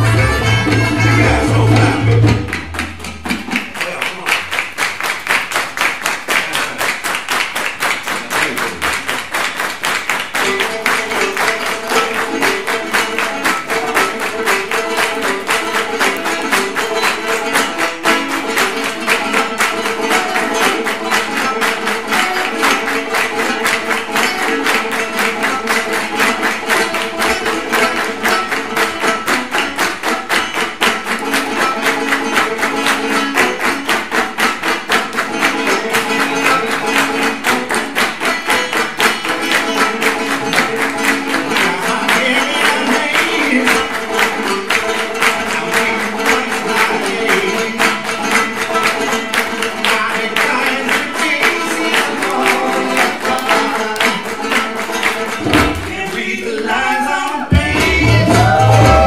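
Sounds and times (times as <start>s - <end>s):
banjo picking: 0.0s - 3.8s, 10.0s - 56.9s, 57.5s - 59.0s
hand drums: 0.0s - 5.6s, 8.7s - 59.0s
hand clapping: 1.8s - 59.0s.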